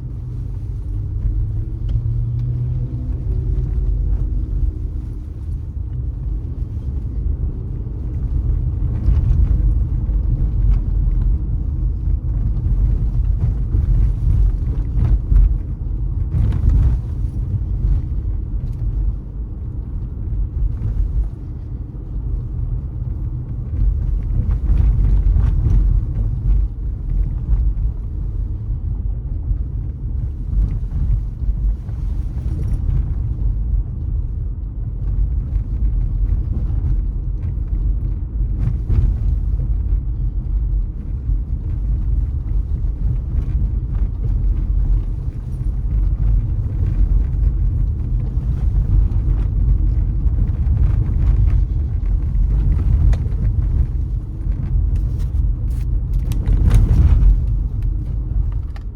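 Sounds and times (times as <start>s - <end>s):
car engine and tyres rumbling: 0.0s - 58.9s.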